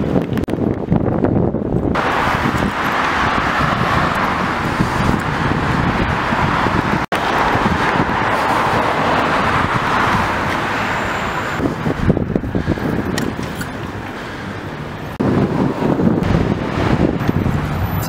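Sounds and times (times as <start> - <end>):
car traffic: 0.0 - 18.0
road noise: 0.0 - 18.0
rushing wind: 0.0 - 18.0.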